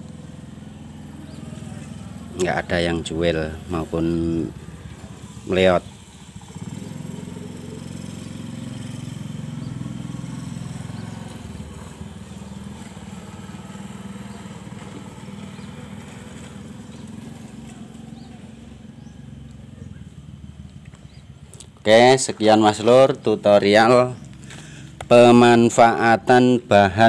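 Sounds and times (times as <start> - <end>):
engine droning hum: 0.0 - 27.0.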